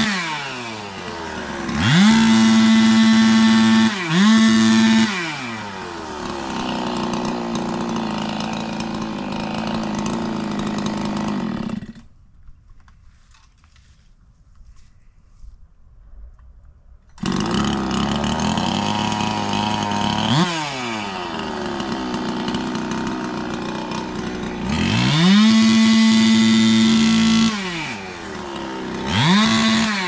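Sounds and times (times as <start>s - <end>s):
chainsaw revving: 0.0s - 12.1s, 17.2s - 30.0s.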